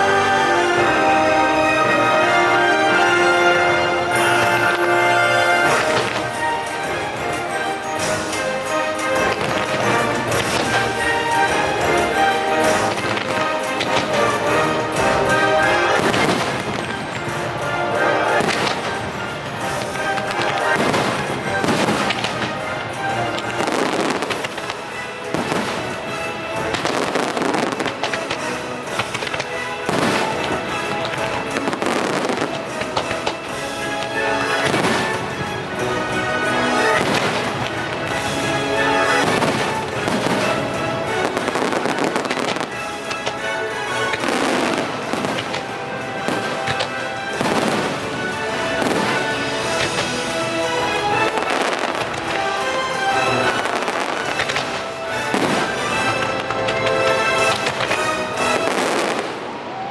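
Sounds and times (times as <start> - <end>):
fireworks bursting and crackling: 0.0 - 59.9
orchestral music: 0.0 - 59.9.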